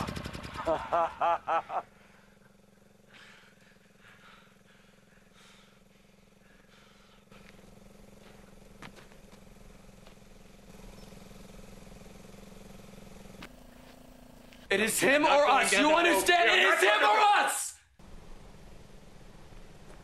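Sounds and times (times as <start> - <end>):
dirt bike engine idling: 0.0 - 20.0.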